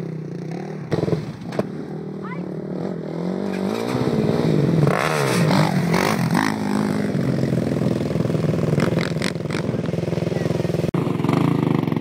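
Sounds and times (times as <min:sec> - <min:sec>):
quad engine revving: 0:00.0 - 0:12.0.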